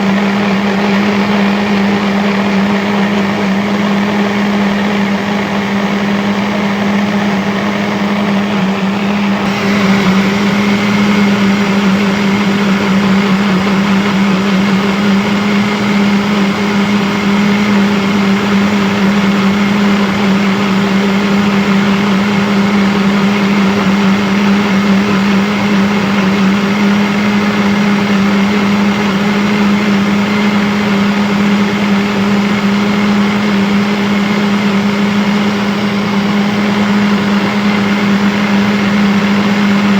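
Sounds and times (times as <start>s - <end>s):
electric blender motor running: 0.0s - 39.9s.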